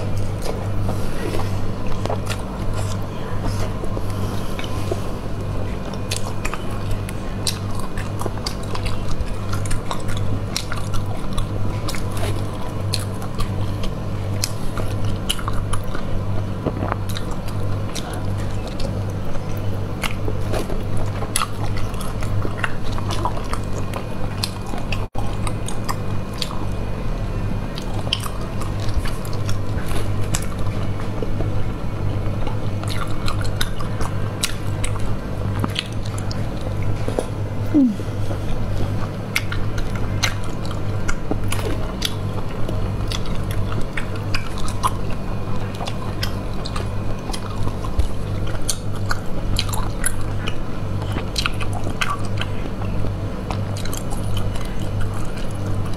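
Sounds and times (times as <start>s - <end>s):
wet chewing and sucking: 0.0s - 26.9s, 27.7s - 55.9s
low pulsing hum: 0.0s - 55.9s.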